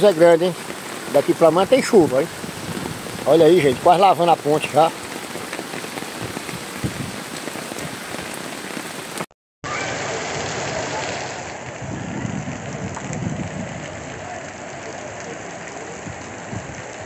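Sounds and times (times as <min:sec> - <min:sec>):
downpour on a flooded street: 0:00.0 - 0:17.0
heavy rain falling: 0:00.0 - 0:17.0.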